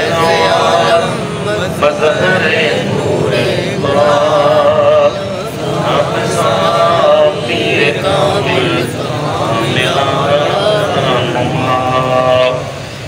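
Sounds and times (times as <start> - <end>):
crowd murmur: 0.0 - 13.0
man chanting: 0.0 - 13.0.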